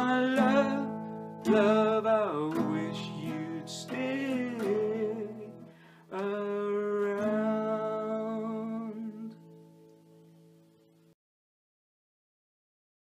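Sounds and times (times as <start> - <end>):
acoustic guitar chords strummed: 0.0 - 11.1.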